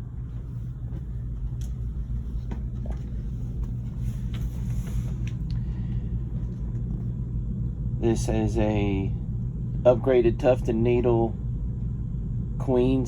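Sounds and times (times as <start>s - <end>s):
air conditioners humming: 0.0s - 13.0s.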